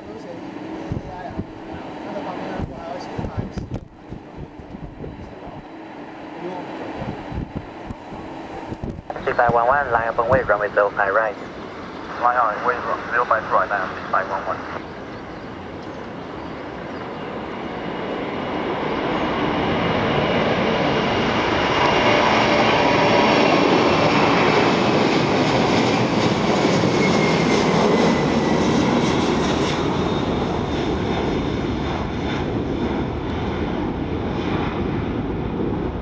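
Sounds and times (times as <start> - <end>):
high jet engine whine: 0.0 - 36.0
jet aircraft taking off: 0.0 - 36.0.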